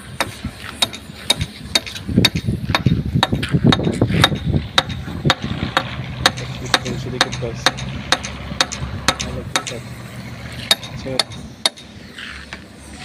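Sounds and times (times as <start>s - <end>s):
low rumbling noise: 0.0s - 13.0s
metal tool striking steel rail: 0.2s - 9.8s, 10.6s - 12.0s.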